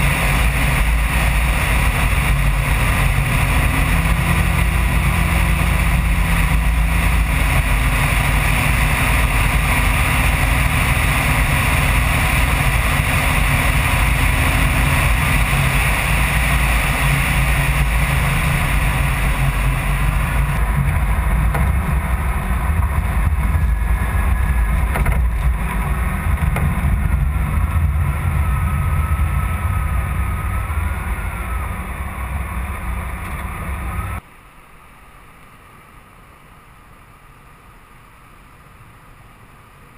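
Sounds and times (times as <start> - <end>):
car engine running: 0.0 - 34.2.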